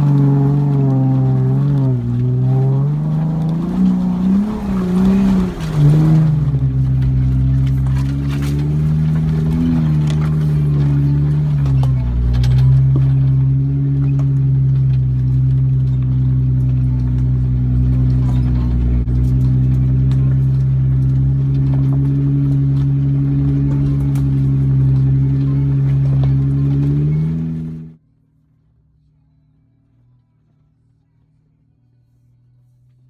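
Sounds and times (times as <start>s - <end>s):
engine running at low revs: 0.0s - 33.0s.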